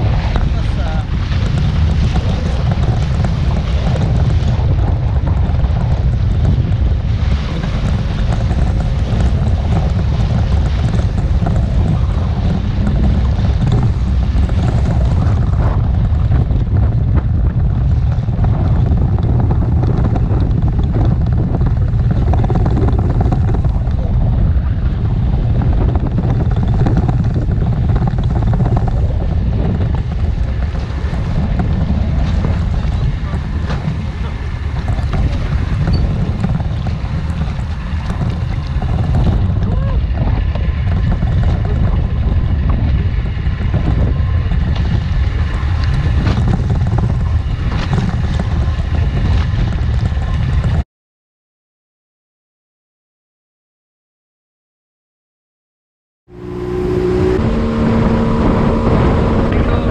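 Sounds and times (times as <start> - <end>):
choppy water: 0.0 - 50.8, 56.3 - 59.9
motorboat engine running: 0.0 - 50.8, 56.3 - 59.9
wind rumbling on microphone: 0.0 - 50.8, 56.3 - 59.9.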